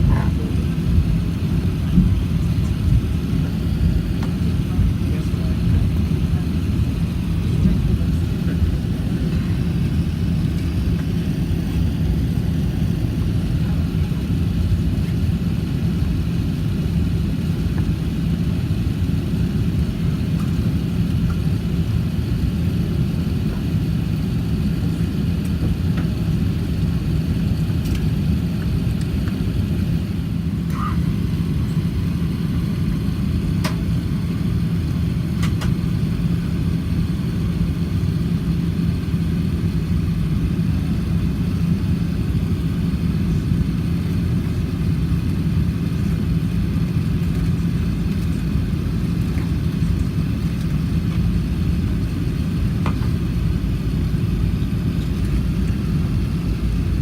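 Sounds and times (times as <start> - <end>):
constant low hum: 0.0 - 57.0
low mechanical rumble: 0.0 - 57.0.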